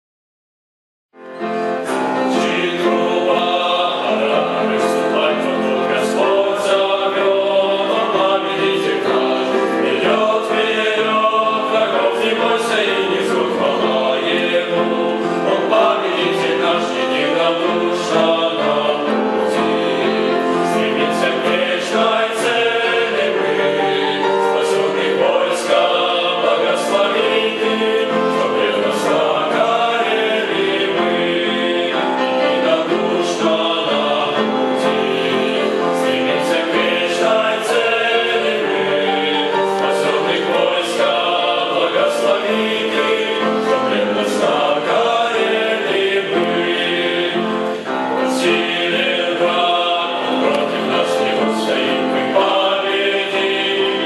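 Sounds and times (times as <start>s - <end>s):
male choir singing a hymn: 1.8s - 54.0s.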